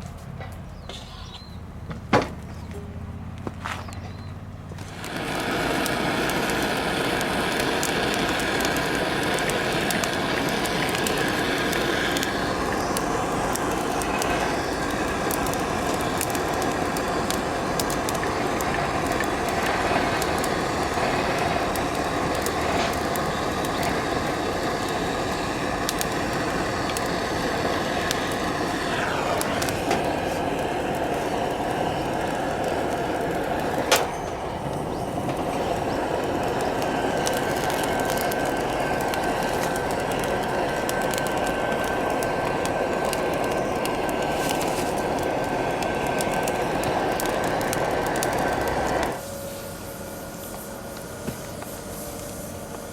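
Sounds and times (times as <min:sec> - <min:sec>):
fire crackles and pops: 0:03.3 - 0:52.9
food sizzling over campfire: 0:04.7 - 0:52.9.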